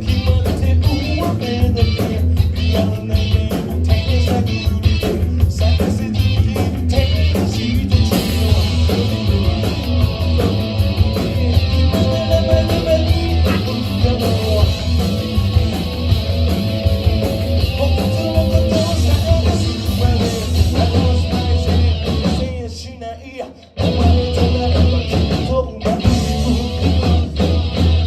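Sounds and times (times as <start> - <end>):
electric guitar melody: 0.0 - 22.5, 23.7 - 28.0
steady drum beat: 0.0 - 22.7, 23.8 - 28.0
bass guitar: 0.0 - 28.0.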